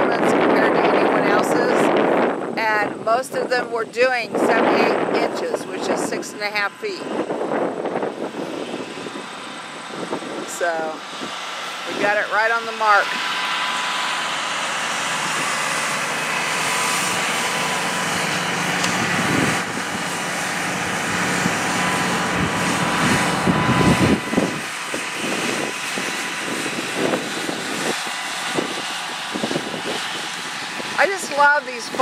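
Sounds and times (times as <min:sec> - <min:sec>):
tractor diesel engine: 0:02.6 - 0:32.0.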